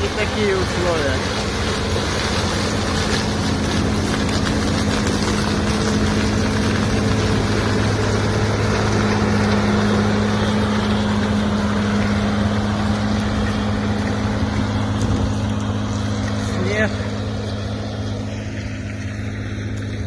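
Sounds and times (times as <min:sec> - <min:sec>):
harvester engine humming: 0:00.0 - 0:20.0
machinery rushing noise: 0:00.0 - 0:20.0.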